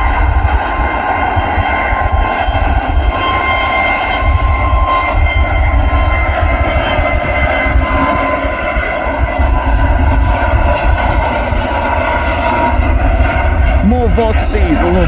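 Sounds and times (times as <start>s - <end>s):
jet engines at high power: 0.0s - 15.0s.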